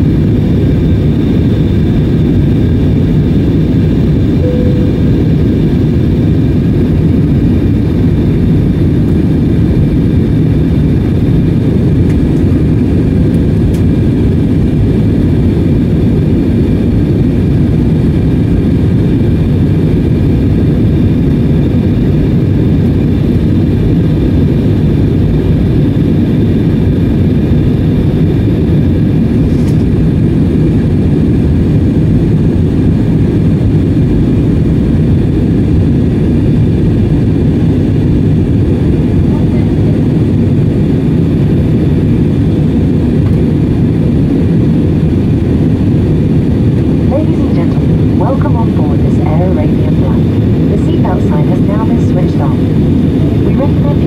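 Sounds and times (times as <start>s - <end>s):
faint steady whines: 0.0s - 54.0s
jet engines and airflow rush: 0.0s - 54.0s.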